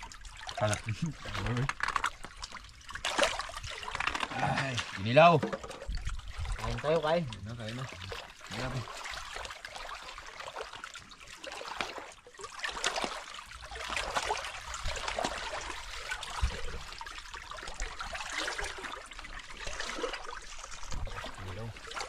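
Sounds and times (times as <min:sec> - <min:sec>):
seawater lapping among rocks: 0:00.0 - 0:22.0.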